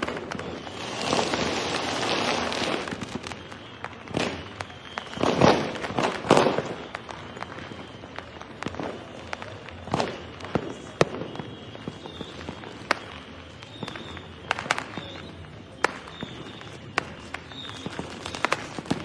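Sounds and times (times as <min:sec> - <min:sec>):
firecrackers banging: 0:00.0 - 0:19.0
firework whistles: 0:00.0 - 0:19.0.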